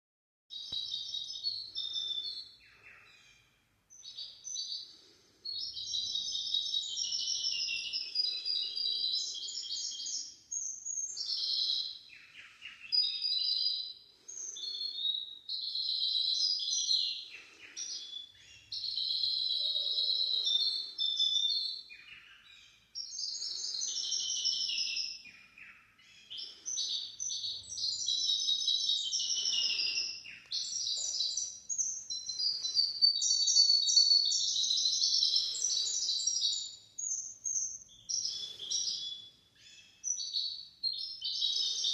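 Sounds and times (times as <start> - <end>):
finch singing trilled song: 0.5 - 41.9.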